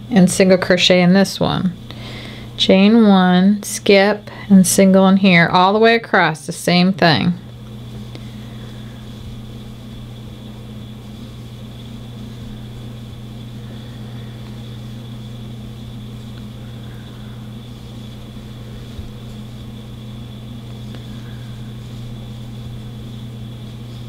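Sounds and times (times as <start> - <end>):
faint high-pitched whine: 0.0 - 24.0
steady low hum: 0.0 - 24.0.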